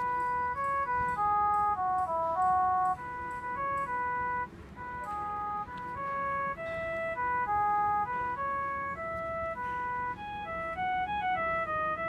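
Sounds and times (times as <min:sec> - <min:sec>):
phone ringtone beeping melody: 0:00.0 - 0:12.0.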